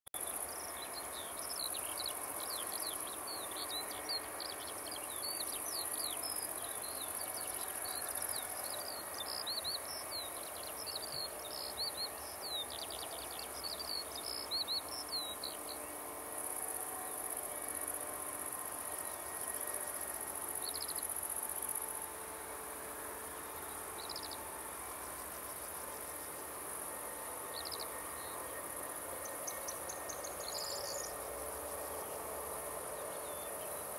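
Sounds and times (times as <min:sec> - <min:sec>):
distant jet engines humming: 0:00.2 - 0:33.9
insects chirring: 0:00.2 - 0:33.9
songbird chirping: 0:00.2 - 0:33.9.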